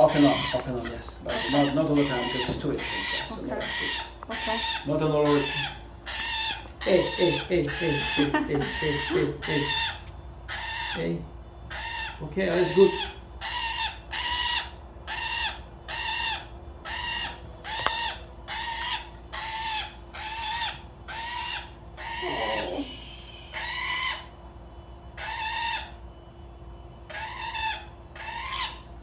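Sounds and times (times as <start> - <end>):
parrot squawking: 0.0 - 24.4, 25.2 - 26.1, 27.1 - 28.9.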